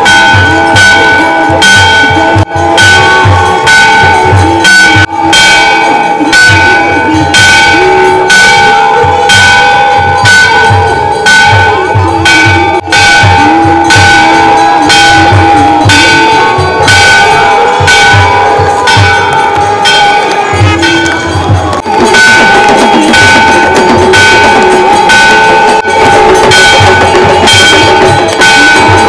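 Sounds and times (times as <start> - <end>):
low pulsing beat: 0.0 - 29.0
temple bells ringing: 0.0 - 29.0.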